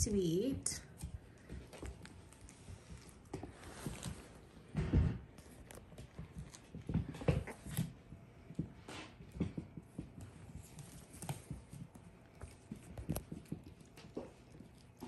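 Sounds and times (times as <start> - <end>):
puppy paws tapping on floor: 0.0 - 15.0.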